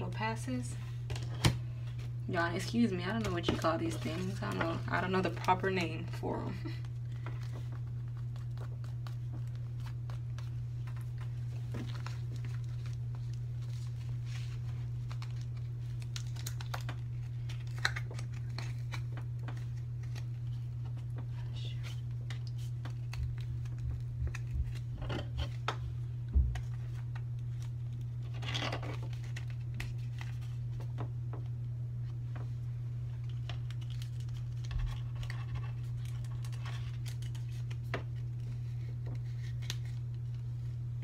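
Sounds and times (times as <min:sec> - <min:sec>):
plastic sleeves crinkling: 0:00.0 - 0:25.8, 0:26.6 - 0:31.1, 0:32.3 - 0:41.0
steady low hum: 0:00.0 - 0:41.0.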